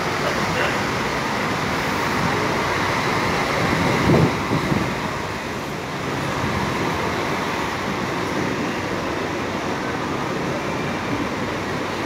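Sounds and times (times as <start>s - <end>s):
diesel engines humming: 0.0s - 12.0s.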